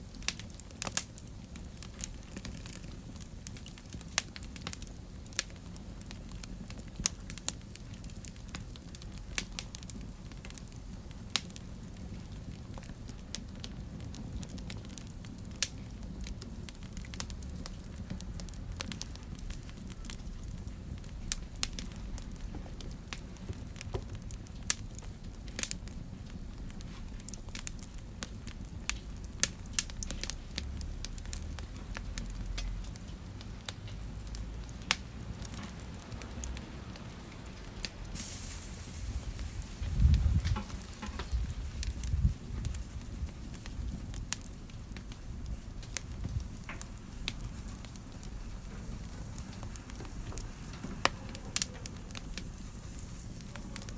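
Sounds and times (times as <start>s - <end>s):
fire crackling and popping: 0.0s - 53.9s
fire rumbling: 0.0s - 53.9s.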